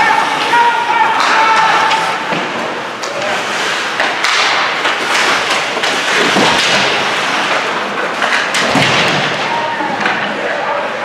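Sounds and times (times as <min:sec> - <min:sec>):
puck and sticks hitting boards: 0:00.0 - 0:10.8
steady noisy background: 0:00.0 - 0:11.0.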